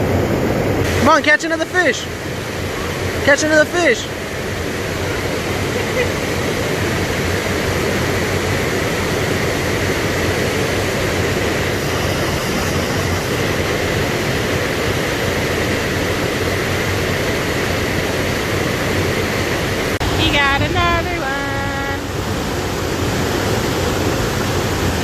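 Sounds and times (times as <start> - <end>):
loud steady rushing noise: 0.0 - 25.0.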